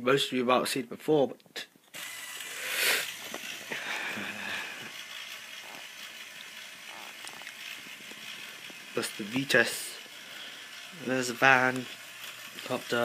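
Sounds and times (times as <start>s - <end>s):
small electric motor whirring: 1.9s - 13.0s.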